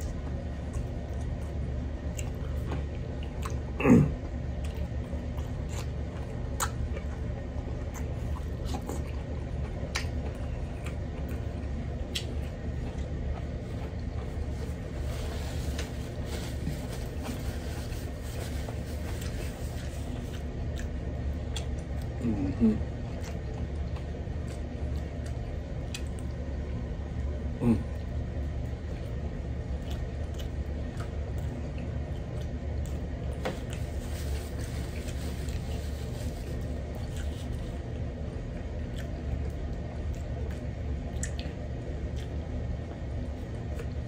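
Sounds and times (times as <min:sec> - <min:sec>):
person chewing food: 0:00.0 - 0:26.4, 0:27.1 - 0:44.0.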